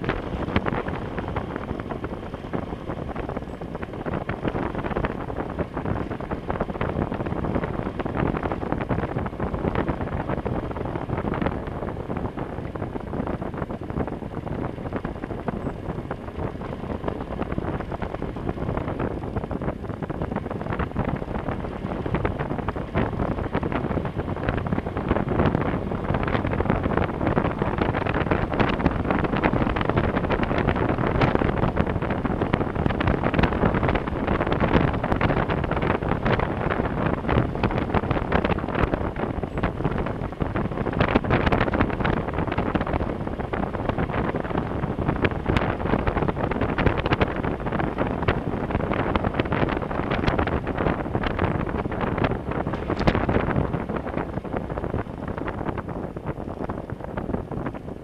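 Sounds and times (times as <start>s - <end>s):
motorcycle engine: 0.0s - 55.2s
tyres on gravel road: 0.0s - 56.7s
wind buffeting microphone: 0.0s - 58.0s.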